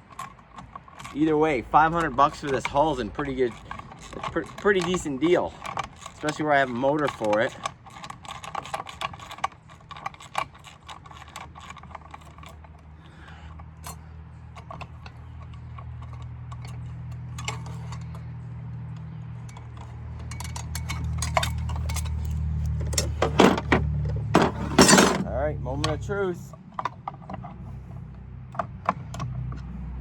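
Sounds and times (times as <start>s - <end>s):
metal tools clicking and knocking: 0.0s - 29.7s.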